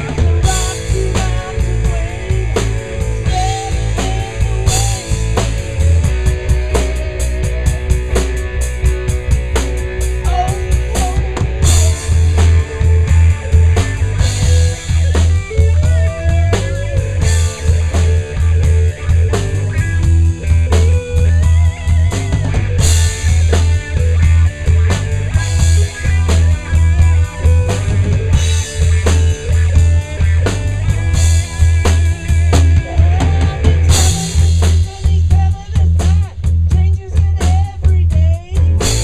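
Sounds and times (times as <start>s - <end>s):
rock band playing: 0.0s - 39.0s.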